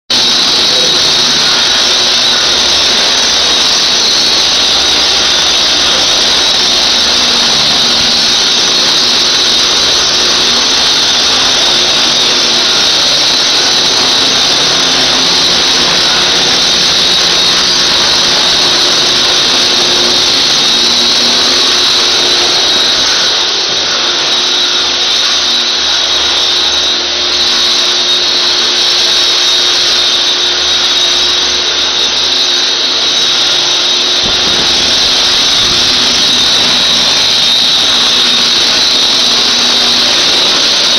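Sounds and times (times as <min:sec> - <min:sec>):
floor sanding machine grinding: 0:00.1 - 0:40.9.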